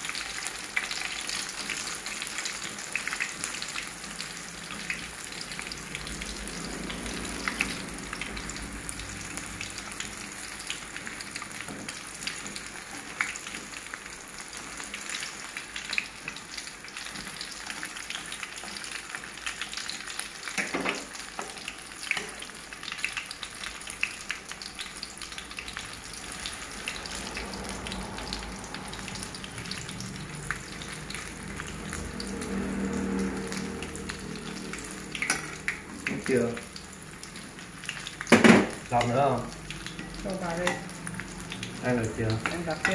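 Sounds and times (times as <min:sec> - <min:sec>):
deep-frying sizzle with crackling pops: 0:00.0 - 0:42.9.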